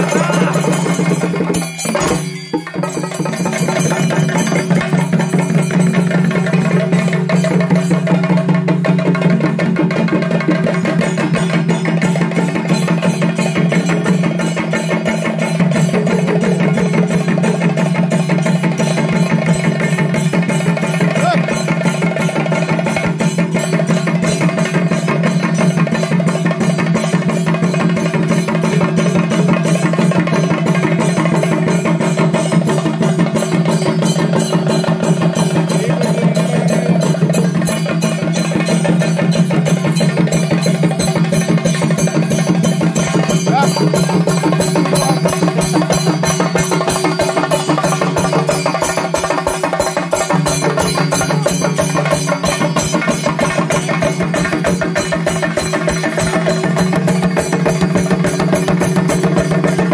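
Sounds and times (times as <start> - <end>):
fast drumming with sticks: 0.0 - 59.9.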